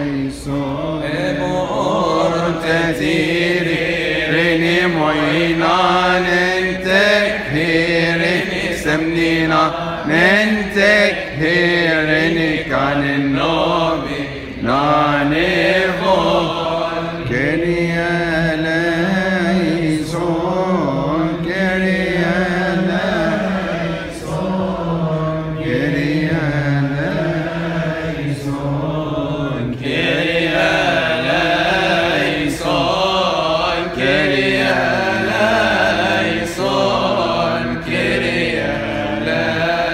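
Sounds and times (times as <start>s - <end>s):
men chanting a hymn: 0.0s - 39.9s.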